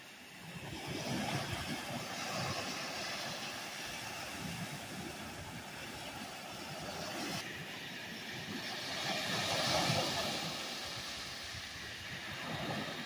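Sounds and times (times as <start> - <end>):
waves washing onto sandy shore: 0.0 - 13.0.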